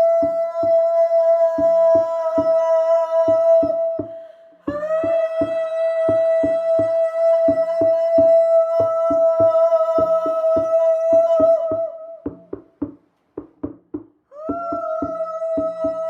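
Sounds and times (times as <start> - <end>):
drumbeat: 0.0 - 16.0.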